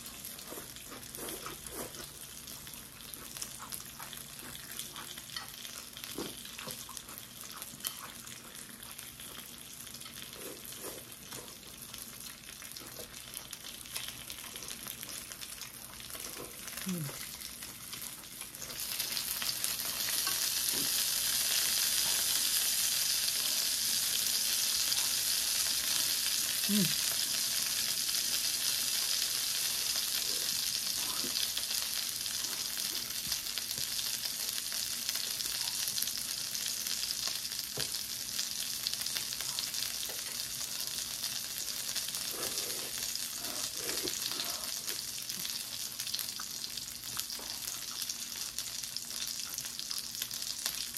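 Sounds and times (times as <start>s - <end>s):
dumplings sizzling in oil: 0.0s - 50.9s.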